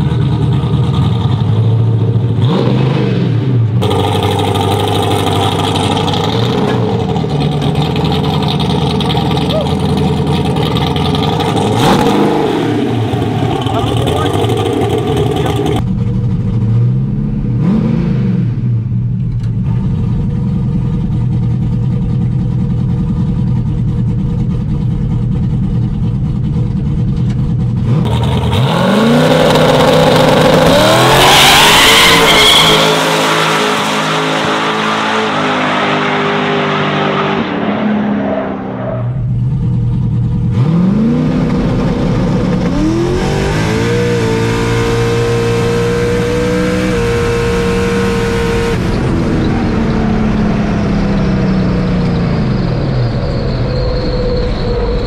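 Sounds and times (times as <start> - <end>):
truck engine revving: 0.0 - 21.4, 26.0 - 55.0.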